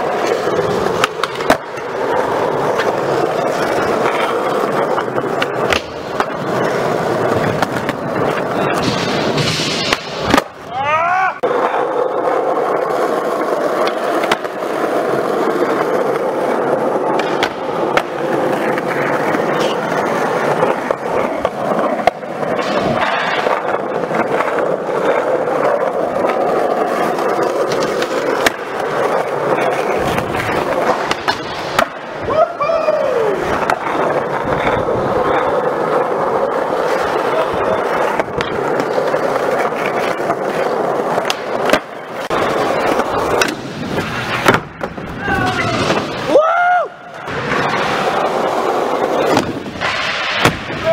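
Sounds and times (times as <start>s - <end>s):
skateboard wheels rolling on concrete: 0.0s - 50.9s
skateboards clacking: 0.0s - 50.9s.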